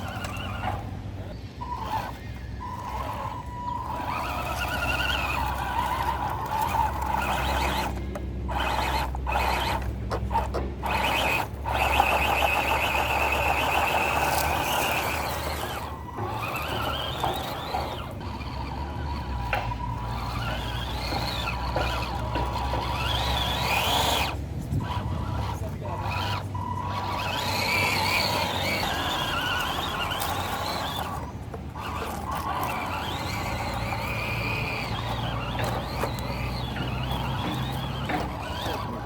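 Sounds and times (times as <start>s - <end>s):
electric motor and gearbox whining: 0.0s - 39.0s.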